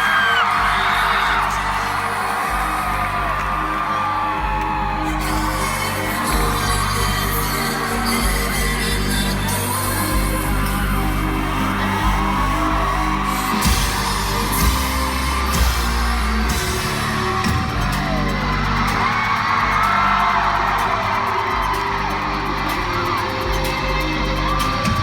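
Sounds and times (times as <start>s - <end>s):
audience screaming and whooping: 0.0s - 25.0s
live concert music with heavy bass: 0.0s - 25.0s.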